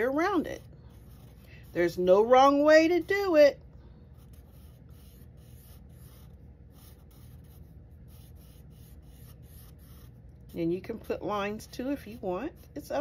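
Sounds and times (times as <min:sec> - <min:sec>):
marker drawing on paper: 0:00.0 - 0:13.0.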